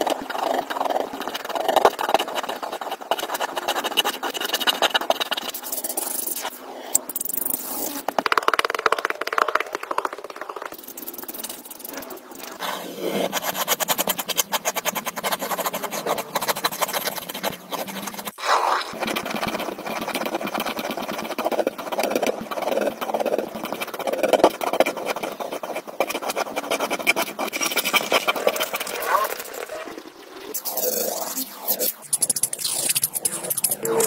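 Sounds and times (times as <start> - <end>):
pencil scratching on paper: 0.0 - 6.6, 10.8 - 29.5, 30.6 - 34.0
ink pen scratching on paper: 0.0 - 8.1, 10.7 - 29.5, 30.5 - 34.0.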